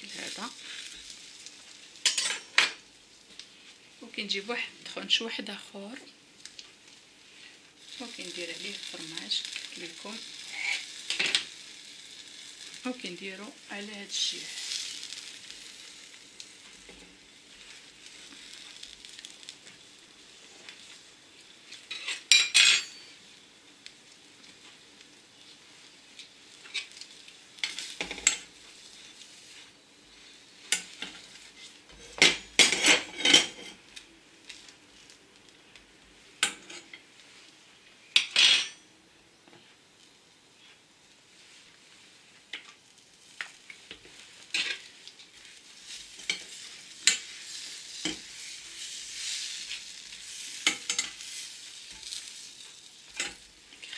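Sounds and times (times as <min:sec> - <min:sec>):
bread frying in a pan: 0:00.0 - 0:53.9.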